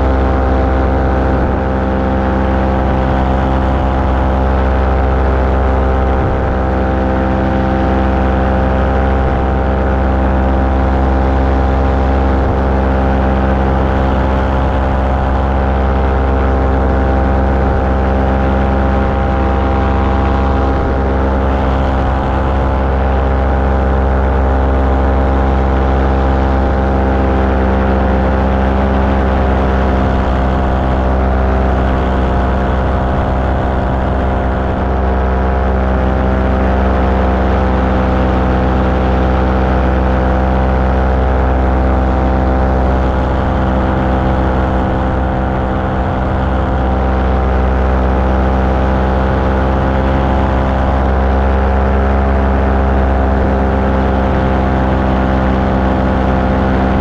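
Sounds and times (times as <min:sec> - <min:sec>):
small aircraft engine drone: 0:00.0 - 0:57.0.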